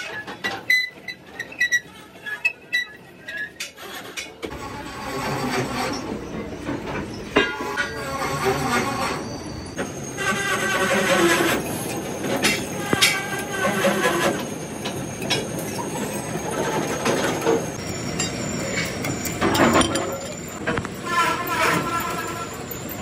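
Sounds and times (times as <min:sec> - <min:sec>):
lathe tool scraping and squealing: 0:00.0 - 0:23.0.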